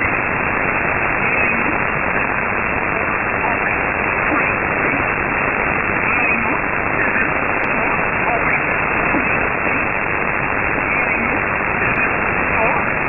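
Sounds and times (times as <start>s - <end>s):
shortwave radio static hiss: 0.0s - 13.0s.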